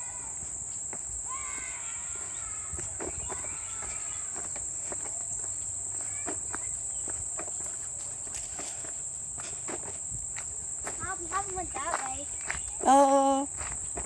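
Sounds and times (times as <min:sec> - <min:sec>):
insects singing: 0:00.0 - 0:14.0.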